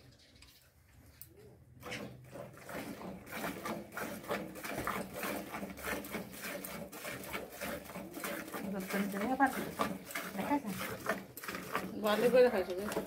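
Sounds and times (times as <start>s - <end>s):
milk squirting into bucket: 1.8s - 13.0s.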